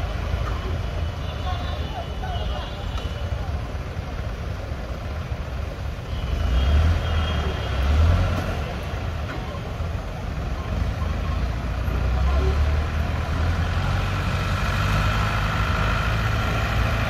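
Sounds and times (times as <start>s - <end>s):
crane diesel engine under load: 0.0s - 17.0s.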